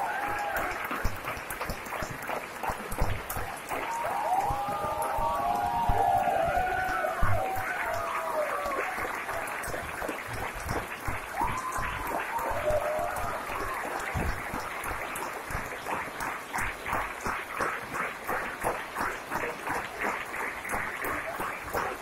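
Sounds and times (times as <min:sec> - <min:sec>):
audience applauding: 0:00.0 - 0:22.0
rhythmic clapping in unison: 0:00.0 - 0:22.0.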